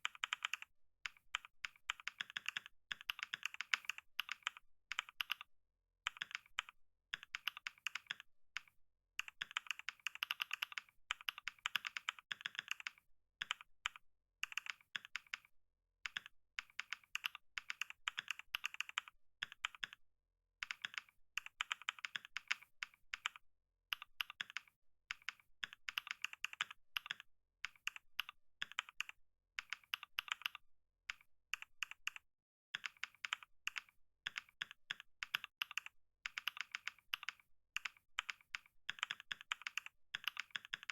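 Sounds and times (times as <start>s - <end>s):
fast typing on keyboard: 0.0s - 5.5s, 6.1s - 15.5s, 16.1s - 20.0s, 20.6s - 32.2s, 32.8s - 40.9s.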